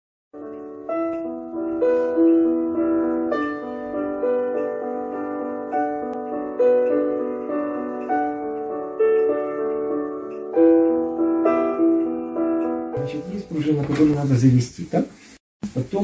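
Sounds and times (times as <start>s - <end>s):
piano melody: 0.3s - 14.9s.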